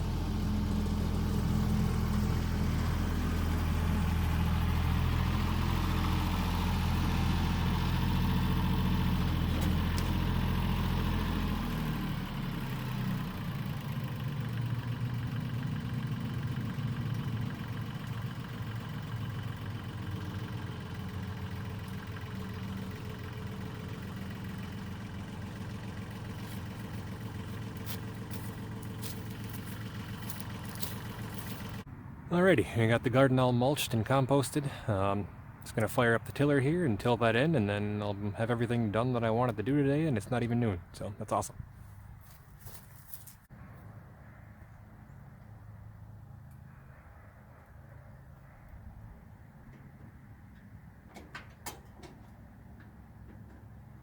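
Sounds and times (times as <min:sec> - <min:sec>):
engine running steadily: 0:00.0 - 0:43.6, 0:44.2 - 0:54.0.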